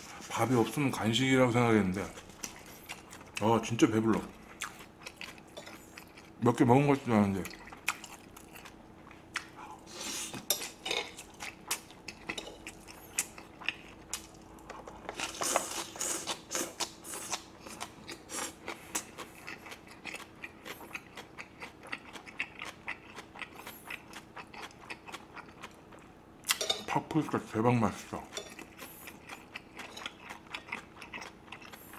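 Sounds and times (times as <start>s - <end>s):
chewing and crunching food: 0.0s - 27.3s, 28.0s - 31.9s.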